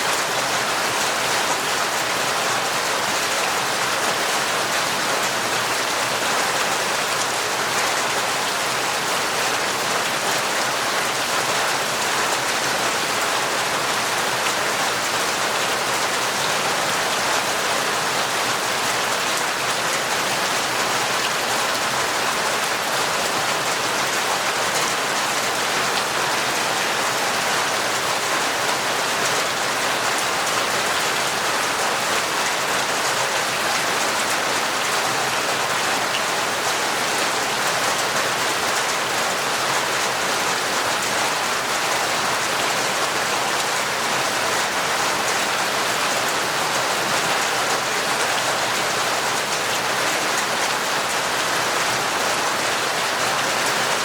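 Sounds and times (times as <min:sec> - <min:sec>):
torrential rain: 0:00.0 - 0:54.0.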